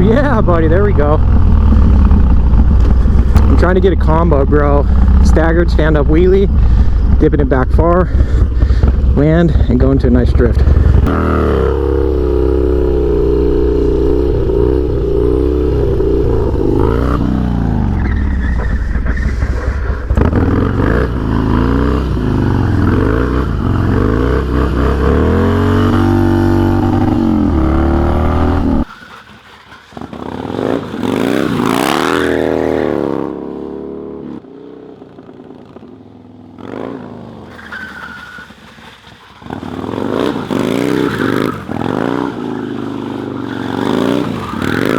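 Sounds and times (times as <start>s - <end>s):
motorcycle engine revving: 0.0s - 38.5s, 39.4s - 44.9s.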